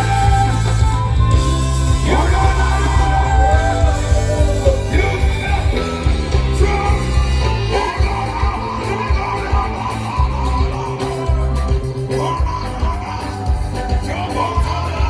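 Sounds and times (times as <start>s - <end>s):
heavy bass line: 0.0s - 15.0s
live band music: 0.0s - 15.0s
person singing: 1.8s - 15.0s.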